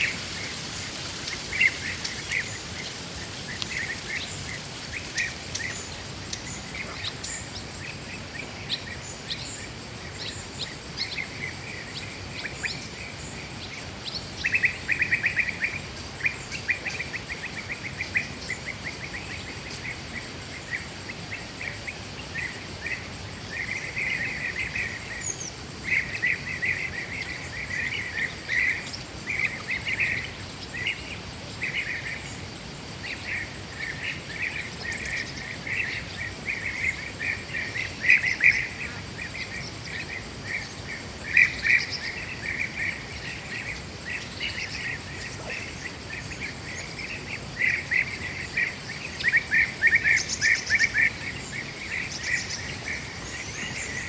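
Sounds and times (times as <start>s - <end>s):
birds chirping: 0.0s - 54.0s
steady background hiss: 0.0s - 54.0s.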